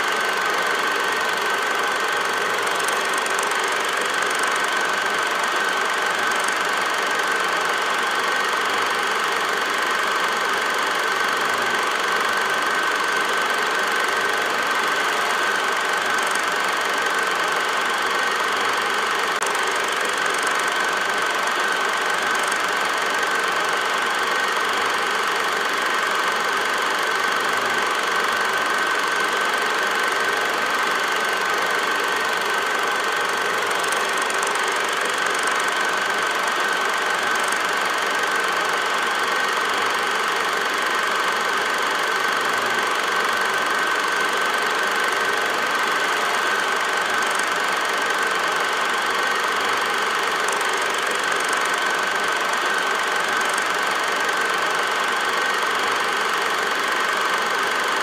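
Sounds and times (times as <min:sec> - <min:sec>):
film projector running: 0:00.0 - 0:58.0.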